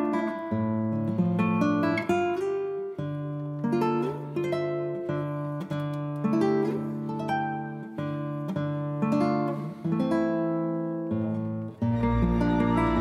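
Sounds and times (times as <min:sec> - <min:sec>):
plucked guitar music: 0:00.0 - 0:13.0.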